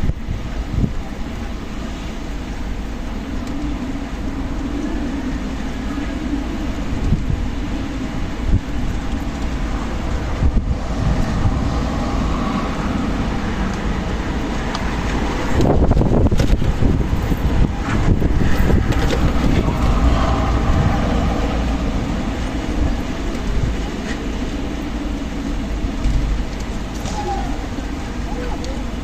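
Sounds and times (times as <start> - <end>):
strong wind blowing: 0.0 - 29.0
wind buffeting microphone: 0.0 - 29.0.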